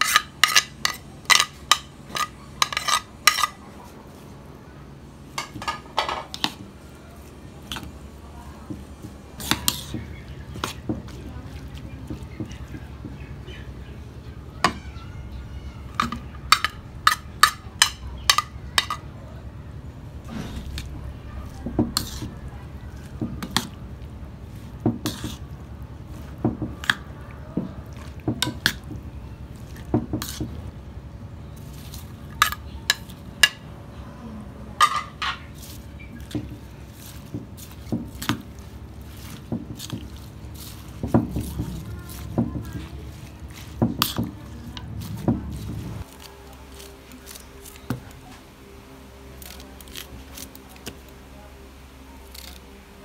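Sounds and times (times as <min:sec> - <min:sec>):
steady low hum: 0:00.0 - 0:53.0
wet squishing of vegetables: 0:06.4 - 0:19.1, 0:19.7 - 0:33.9, 0:35.4 - 0:48.5, 0:49.3 - 0:51.3, 0:52.2 - 0:52.8.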